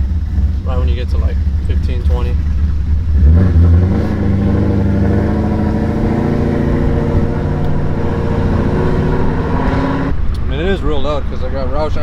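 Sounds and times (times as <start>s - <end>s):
loud car engine loping: 0.0s - 12.0s.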